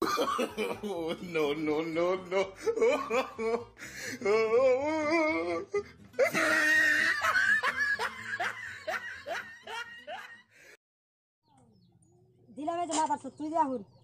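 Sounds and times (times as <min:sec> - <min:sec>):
soft background music: 0:00.0 - 0:10.5, 0:11.4 - 0:14.0.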